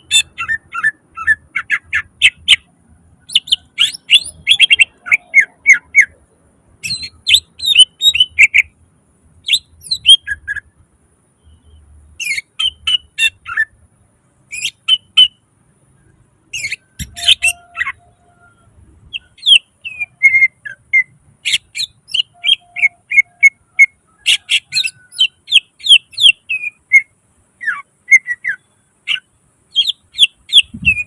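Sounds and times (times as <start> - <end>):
bird singing whistled notes: 0.0 - 6.2, 6.8 - 8.8, 9.4 - 10.8, 11.4 - 13.8, 14.5 - 31.0
harsh rasping bird calls: 0.0 - 8.8, 9.4 - 10.7, 11.4 - 13.8, 14.5 - 15.4, 16.0 - 31.0.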